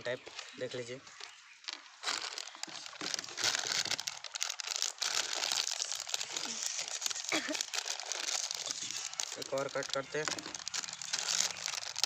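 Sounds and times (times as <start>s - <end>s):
plastic snack packet crinkling: 0.1s - 12.0s.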